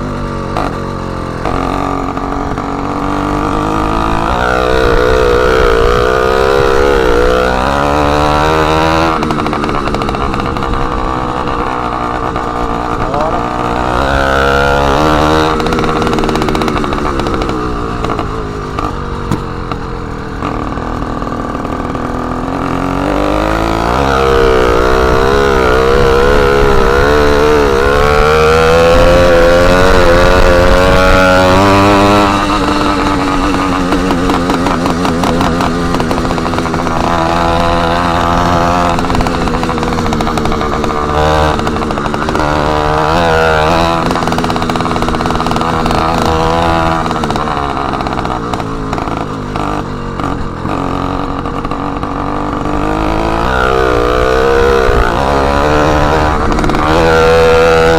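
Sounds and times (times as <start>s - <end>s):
loud two-stroke engine revving: 0.0s - 57.9s.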